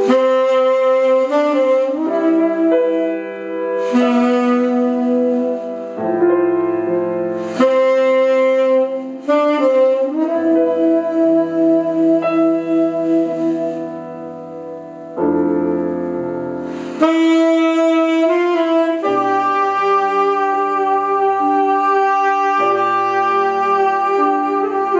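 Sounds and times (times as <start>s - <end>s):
piano chords: 0.0s - 24.9s
tenor saxophone: 0.0s - 24.9s.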